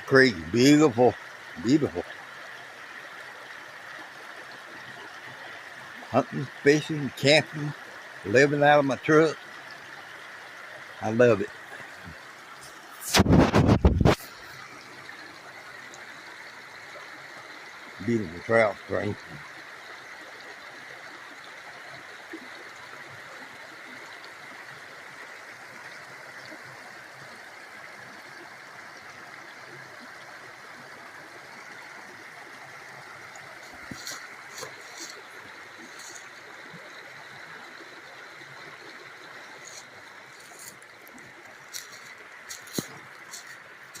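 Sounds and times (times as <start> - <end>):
stream water running: 0.0 - 44.0.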